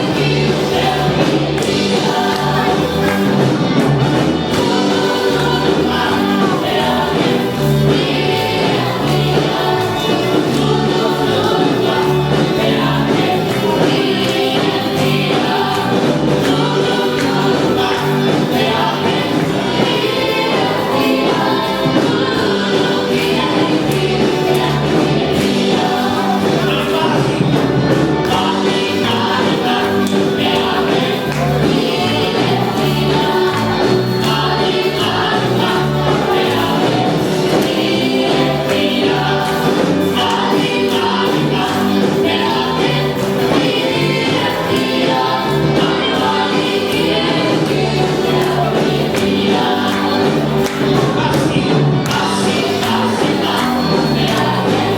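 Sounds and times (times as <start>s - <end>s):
band accompaniment: 0.0s - 54.9s
group singing gospel in harmony: 0.0s - 54.9s.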